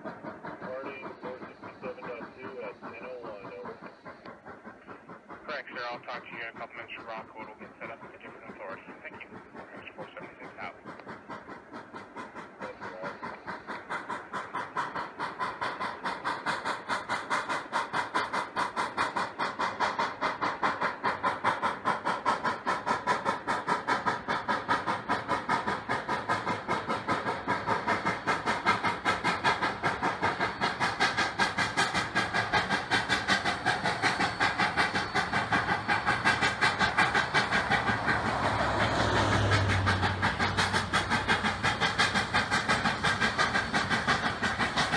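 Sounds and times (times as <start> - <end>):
steam locomotive chuffing: 0.0 - 44.9.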